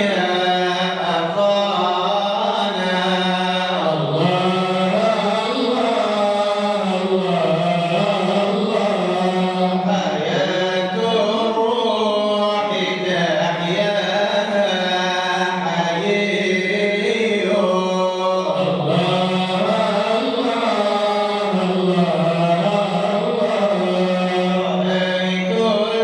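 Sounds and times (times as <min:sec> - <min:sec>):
man chanting devotional song: 0:00.0 - 0:26.0.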